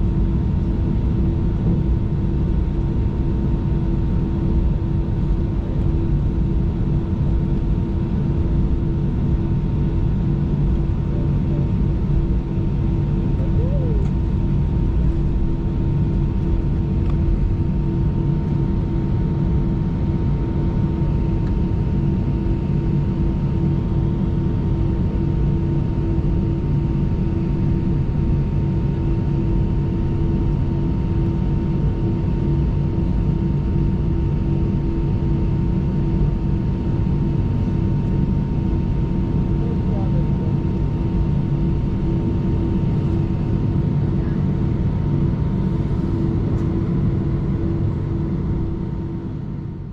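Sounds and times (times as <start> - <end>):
aircraft cabin low rumble: 0.0 - 49.9
jet engine hums: 0.0 - 49.9.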